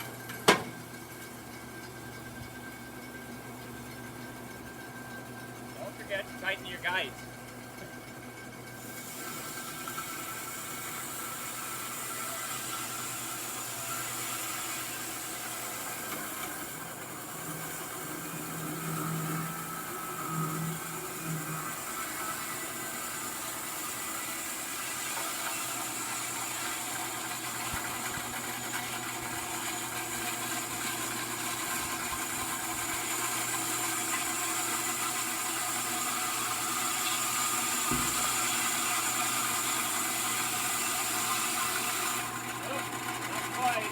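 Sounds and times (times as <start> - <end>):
band sawmill cutting a log: 0.0 - 43.9.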